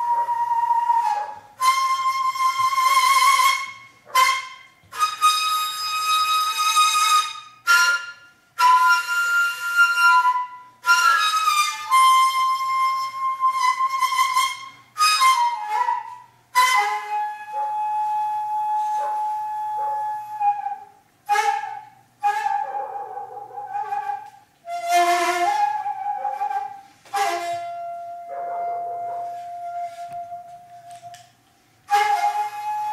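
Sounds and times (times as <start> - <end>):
bamboo flute melody: 0.0 - 32.9.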